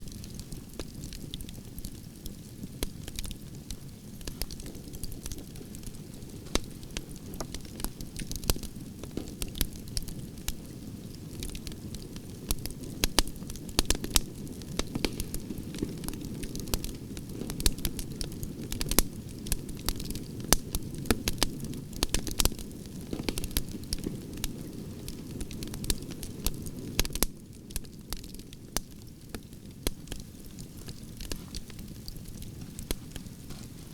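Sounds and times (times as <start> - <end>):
burning wood crackling and popping: 0.0 - 33.9
low rumble of flames: 0.0 - 33.9.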